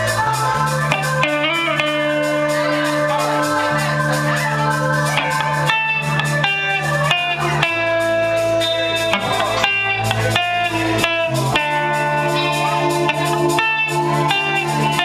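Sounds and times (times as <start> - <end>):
band playing blues-rock: 0.0 - 15.0
electric guitar lead notes: 0.0 - 15.0
steady bass line: 0.0 - 15.0.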